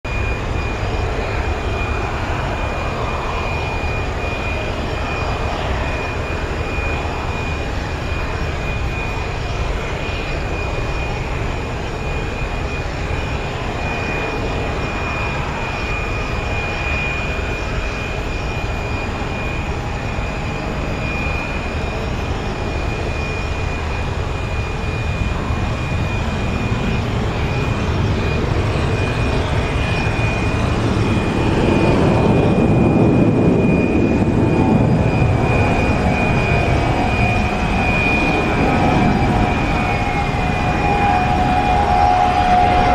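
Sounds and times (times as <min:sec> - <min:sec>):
jet engines rumbling: 0:00.1 - 0:42.9.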